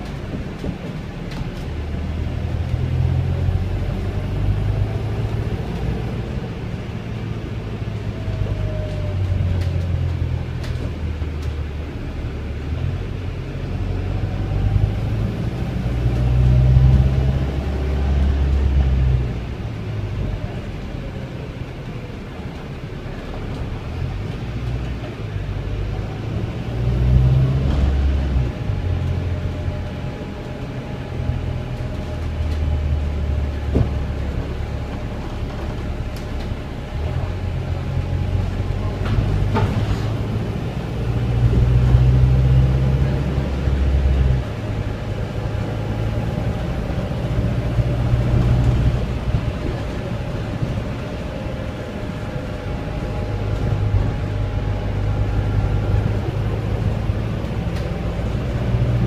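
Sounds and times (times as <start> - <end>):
bus body rattles: 0.0 - 13.6, 14.2 - 59.0
bus engine drone: 0.0 - 59.0.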